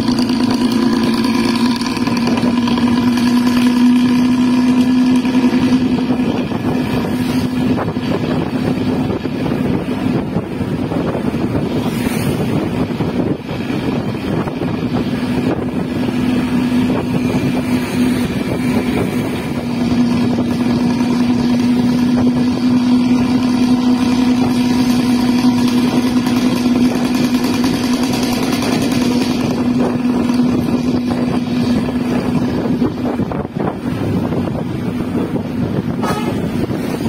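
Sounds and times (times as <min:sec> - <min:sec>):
bus exhaust droning: 0:00.0 - 0:37.0.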